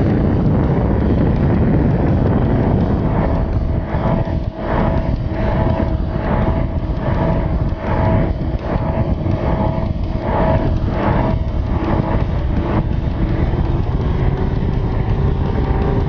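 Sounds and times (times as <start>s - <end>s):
outboard motor whine: 0.0s - 16.0s
wind buffeting on microphone: 0.0s - 16.0s.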